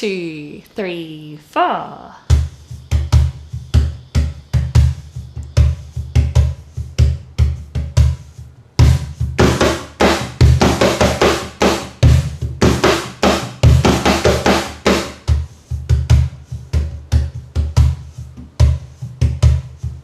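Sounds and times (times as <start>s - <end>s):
cajon played by hand: 2.2s - 20.0s.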